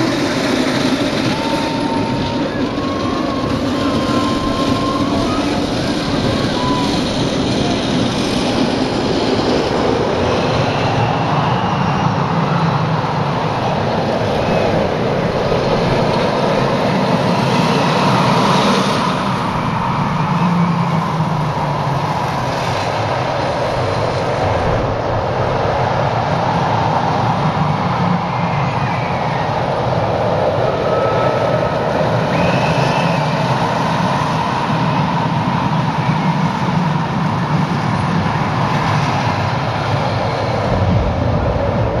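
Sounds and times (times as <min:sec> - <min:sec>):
roller coaster rumbling on track: 0:00.0 - 0:42.0.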